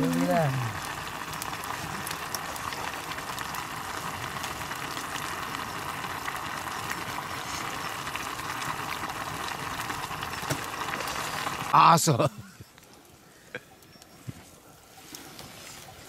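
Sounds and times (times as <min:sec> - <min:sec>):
fire popping: 0:00.0 - 0:16.0
pot boiling: 0:00.0 - 0:16.0.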